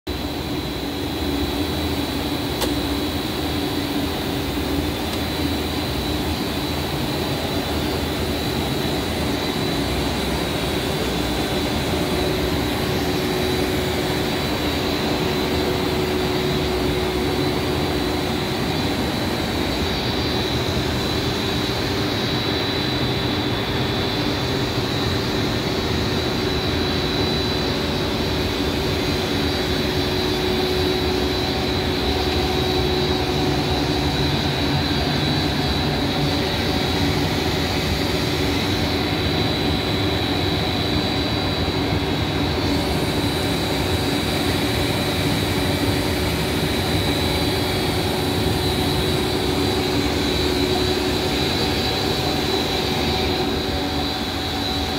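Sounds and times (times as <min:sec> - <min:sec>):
machinery drone with high whine: 0:00.1 - 0:54.9.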